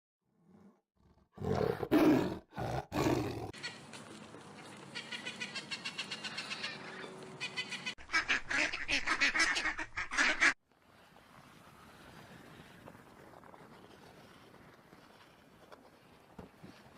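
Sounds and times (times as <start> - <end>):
outdoor background noise: 1.4 - 16.9.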